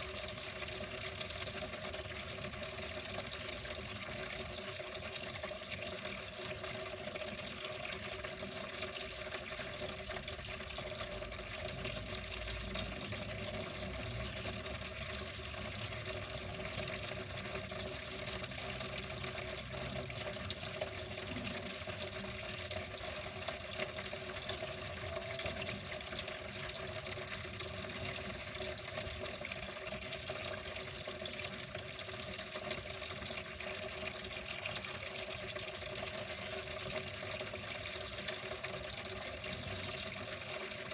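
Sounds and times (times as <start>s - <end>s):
water flowing in a stream: 0.0s - 40.9s.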